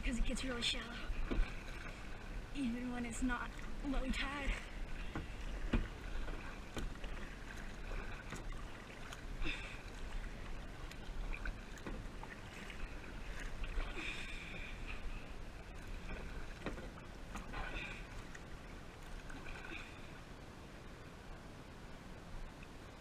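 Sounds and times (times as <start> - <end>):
low wind rumble on microphone: 0.0 - 23.0
paddle splashing in water: 0.5 - 20.2.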